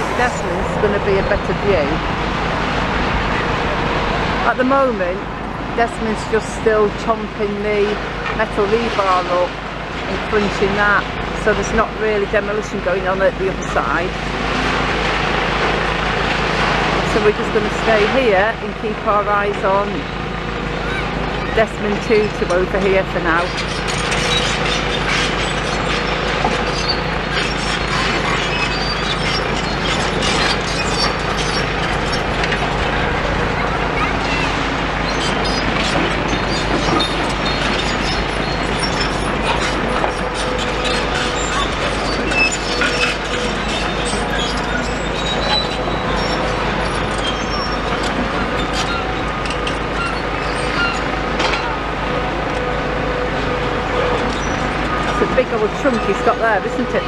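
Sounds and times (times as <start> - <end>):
demolition excavator working: 0.0 - 57.0
diesel engine hum: 0.0 - 57.0
road traffic: 0.0 - 57.0.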